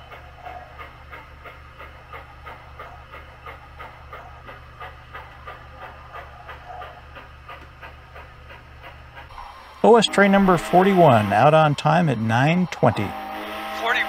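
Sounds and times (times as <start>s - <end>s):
model train humming: 0.0s - 14.0s
wheels clicking on track: 0.0s - 14.0s.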